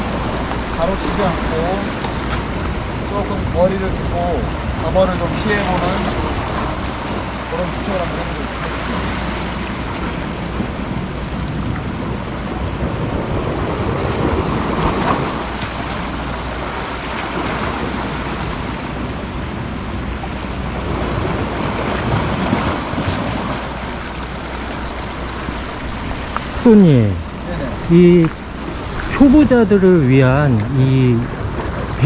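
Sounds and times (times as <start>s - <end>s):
sea waves breaking on rocks: 0.0s - 32.0s
wind buffeting microphone: 0.0s - 32.0s.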